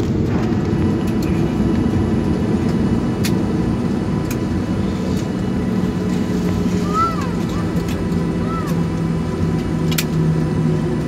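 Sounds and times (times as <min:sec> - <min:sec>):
engines and wheels rumbling: 0:00.0 - 0:11.0.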